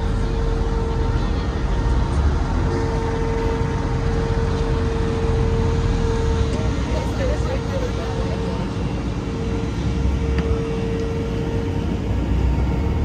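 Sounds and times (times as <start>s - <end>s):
steady mid-pitched hum: 0.0s - 13.0s
street traffic: 0.0s - 13.0s.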